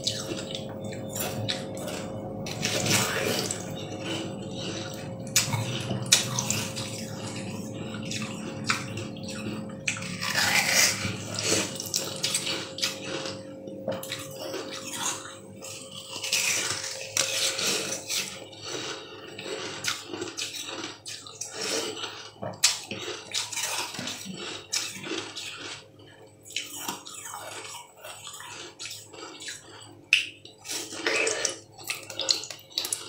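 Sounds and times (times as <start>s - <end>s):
squelchy wet chewing: 0.0s - 33.0s.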